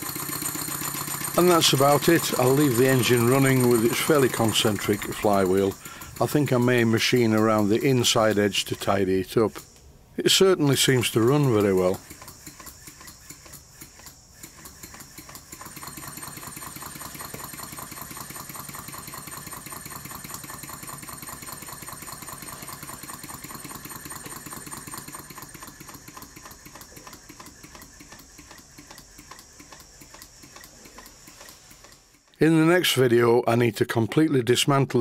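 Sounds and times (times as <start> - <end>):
model steam engine running: 0.0 - 9.6, 10.3 - 33.0.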